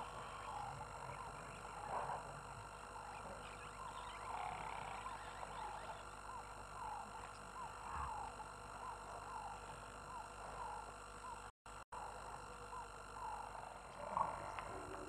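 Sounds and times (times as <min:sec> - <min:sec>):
chorus of animal chirps: 0:00.0 - 0:14.9
steady hiss and low hum: 0:00.0 - 0:15.0.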